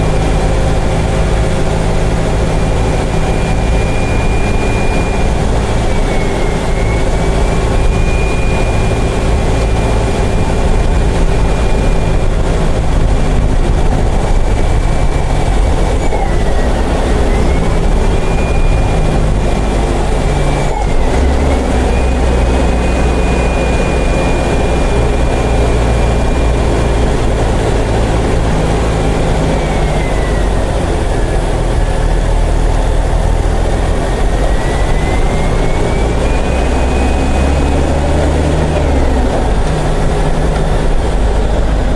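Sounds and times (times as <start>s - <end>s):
bus diesel engine under load: 0.0s - 41.9s
high whine over engine: 0.0s - 41.9s.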